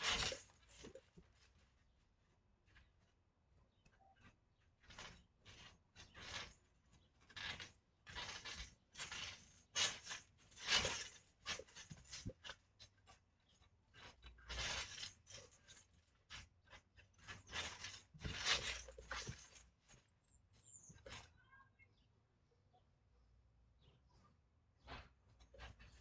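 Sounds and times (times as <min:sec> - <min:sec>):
rustling and scuffing on trampoline: 0:00.0 - 0:21.8, 0:23.8 - 0:26.0.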